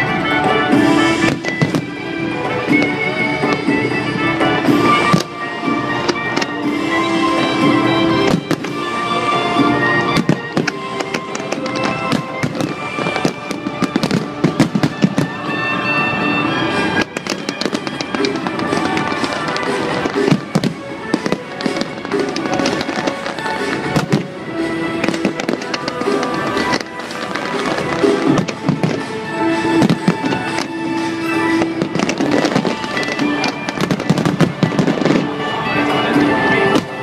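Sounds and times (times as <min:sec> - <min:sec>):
fireworks bursting and crackling: 0:00.0 - 0:37.0
music with sustained tones: 0:00.0 - 0:37.0.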